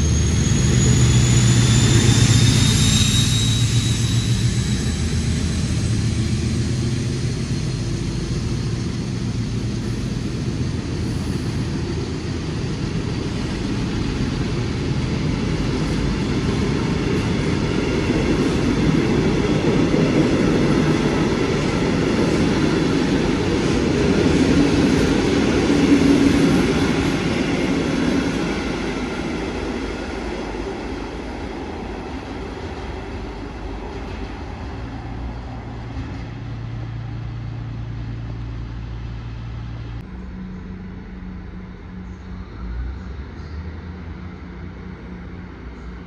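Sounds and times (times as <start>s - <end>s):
train passing: 0.0s - 46.0s.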